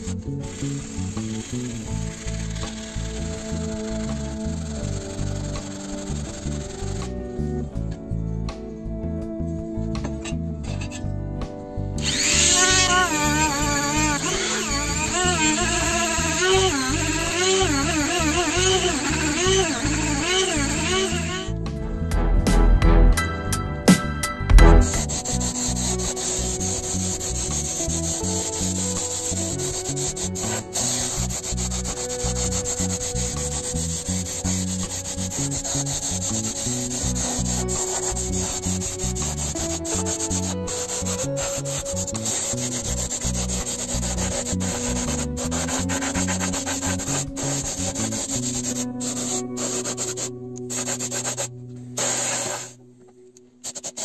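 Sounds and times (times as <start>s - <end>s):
sanding metal: 0.0s - 7.1s, 12.0s - 21.5s, 24.8s - 52.8s, 53.7s - 54.0s.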